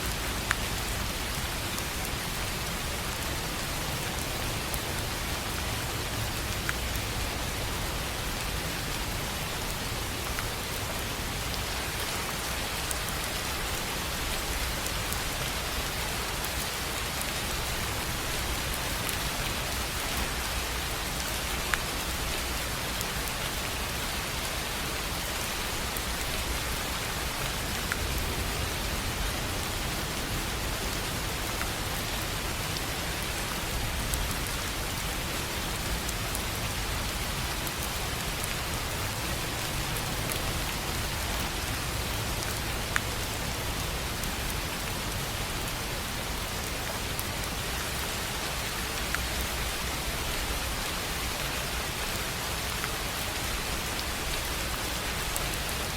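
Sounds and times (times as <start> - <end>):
rain on a tin roof: 0.0 - 55.9.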